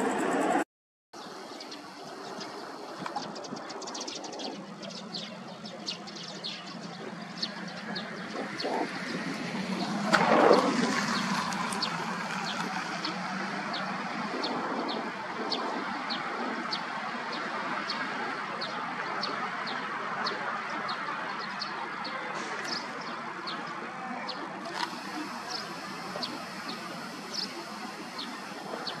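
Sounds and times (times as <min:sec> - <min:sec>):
distant jet airliner roar: 0:00.0 - 0:00.6, 0:01.2 - 0:24.0
small birds chirping: 0:01.2 - 0:10.1, 0:10.8 - 0:29.0.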